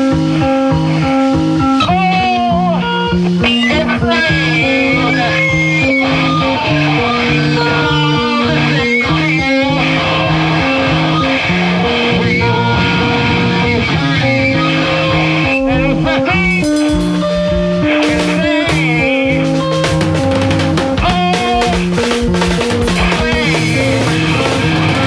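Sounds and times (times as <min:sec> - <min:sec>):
busy drumming: 0:00.0 - 0:25.0
distorted bass guitar riff: 0:00.0 - 0:25.0.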